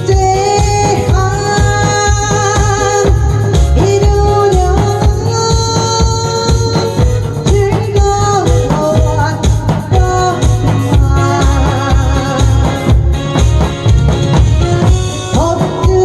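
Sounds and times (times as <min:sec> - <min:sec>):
loud amplified music: 0:00.0 - 0:16.0.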